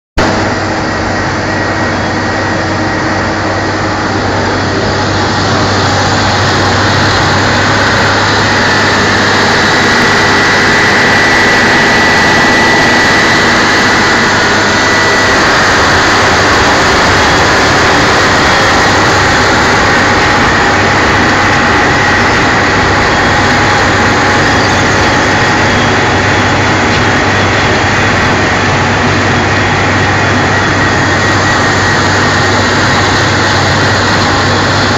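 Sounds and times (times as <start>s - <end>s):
diesel engine running under load: 0.2s - 34.9s.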